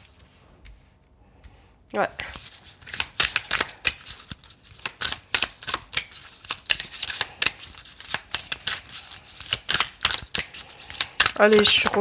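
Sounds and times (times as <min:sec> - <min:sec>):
cards being shuffled: 0:02.2 - 0:12.0.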